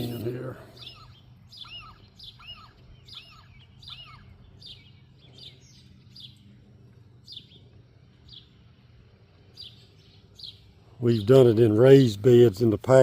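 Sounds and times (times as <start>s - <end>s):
faint low hum: 0.0s - 13.0s
small songbirds chirping: 0.0s - 13.0s.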